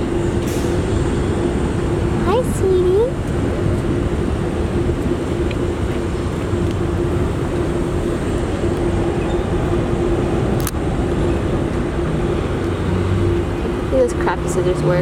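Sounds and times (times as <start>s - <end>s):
steady hum: 0.0s - 15.0s
trucks and traffic: 0.0s - 15.0s.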